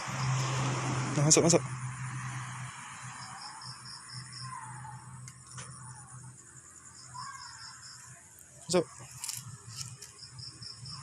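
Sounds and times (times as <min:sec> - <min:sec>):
faint insect chirping: 0:01.9 - 0:11.0.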